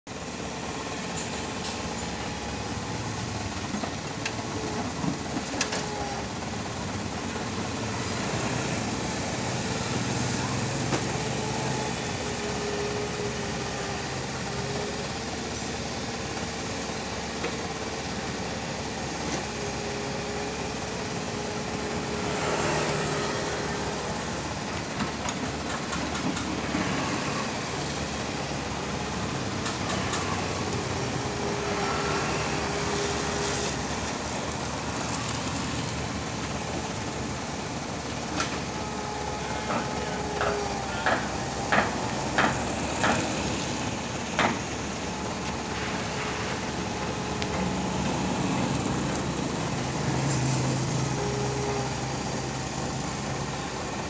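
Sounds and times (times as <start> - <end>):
excavator diesel engine running: 0.1 - 54.0.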